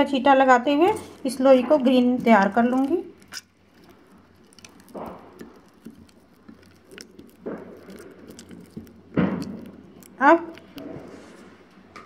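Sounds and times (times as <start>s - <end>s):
dough squishing while kneaded: 0.0s - 12.0s.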